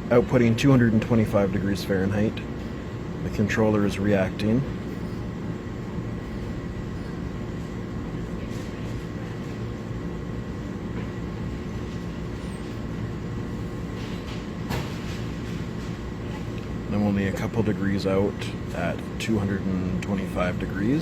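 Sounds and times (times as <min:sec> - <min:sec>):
faint constant tones: 0:00.0 - 0:21.0
machinery hum: 0:00.0 - 0:21.0.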